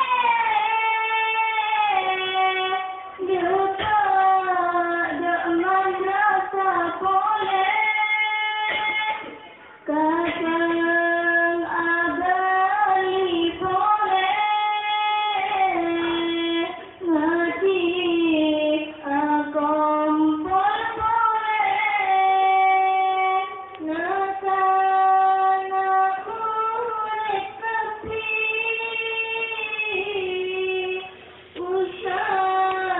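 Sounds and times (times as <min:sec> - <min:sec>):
young woman singing devotional song: 0:00.0 - 0:32.9.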